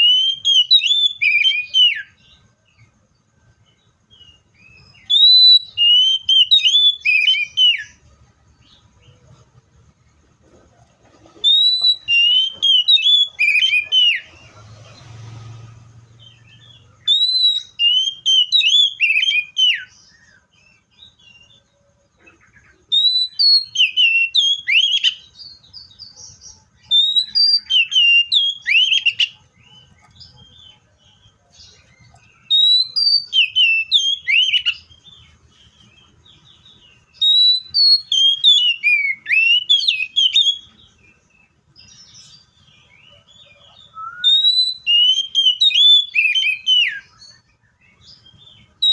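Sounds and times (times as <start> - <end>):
bird singing whistled notes: 0.0 - 9.9, 11.3 - 48.9.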